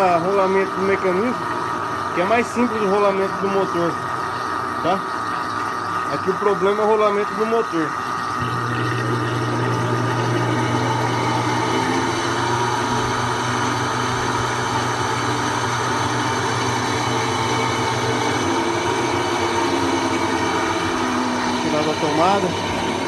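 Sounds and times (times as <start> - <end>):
washing machine spin hum: 0.0 - 23.0.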